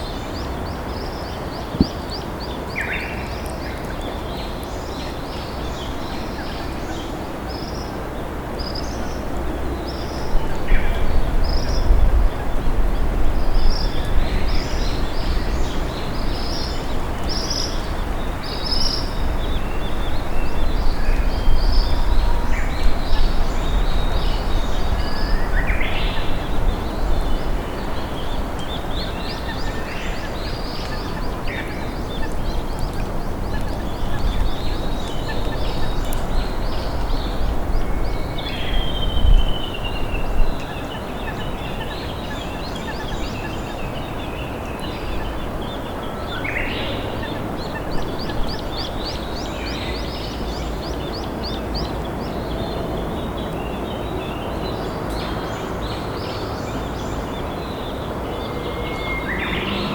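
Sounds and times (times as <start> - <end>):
songbirds chirping and whistling: 0.0 - 59.9.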